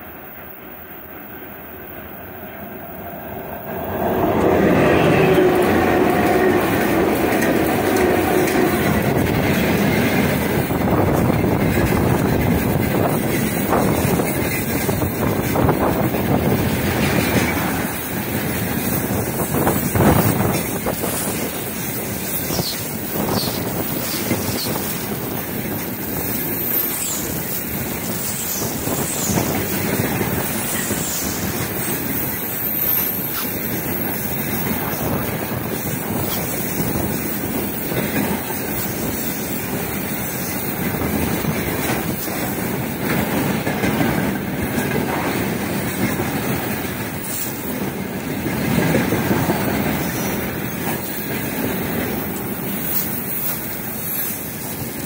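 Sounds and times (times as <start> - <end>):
freight train wheels rumbling: 0.0 - 55.0
train wheel squeals: 3.6 - 47.9, 48.5 - 55.0.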